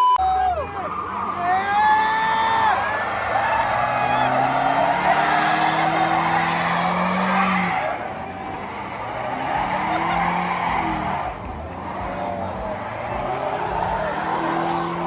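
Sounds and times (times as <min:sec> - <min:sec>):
car engine revving: 0:00.2 - 0:15.0
tyres screeching: 0:00.2 - 0:15.0.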